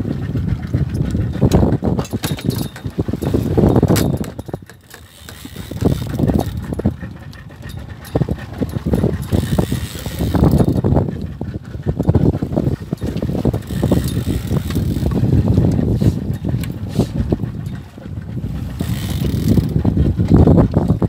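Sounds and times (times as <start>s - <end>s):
small boat on choppy sea: 0.0s - 21.0s
wind buffeting microphone: 0.0s - 21.0s.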